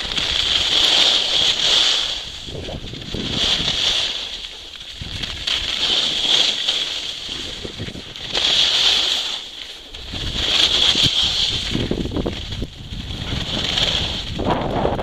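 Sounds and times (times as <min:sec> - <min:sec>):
wind rumbling on microphone: 0:00.0 - 0:08.7, 0:09.9 - 0:15.0
skis scraping on snow: 0:00.0 - 0:15.0.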